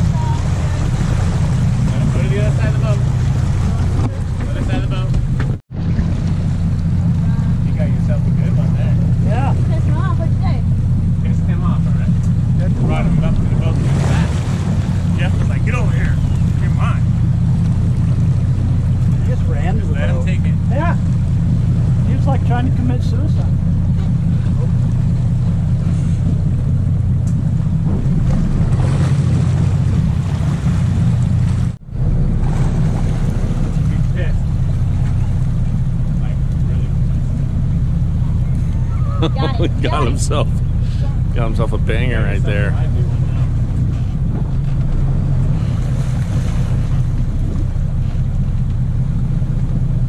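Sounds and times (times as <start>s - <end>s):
boat engine drone: 0.0s - 50.0s
water noise: 0.0s - 50.0s.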